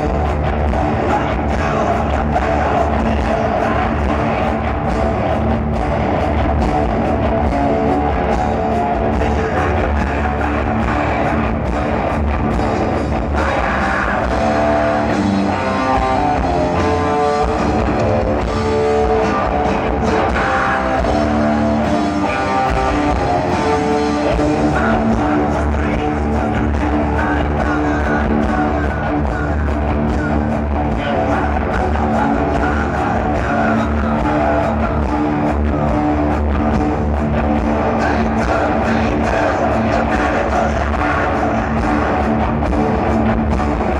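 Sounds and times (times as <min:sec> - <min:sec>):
electric guitar riffing: 0:00.0 - 0:43.9
person singing: 0:00.0 - 0:43.9
pounding drum kit: 0:00.0 - 0:43.9.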